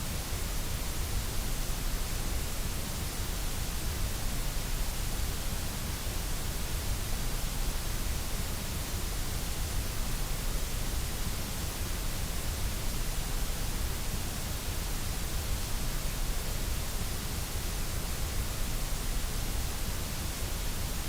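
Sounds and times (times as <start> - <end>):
synthetic white noise hiss: 0.0 - 21.0.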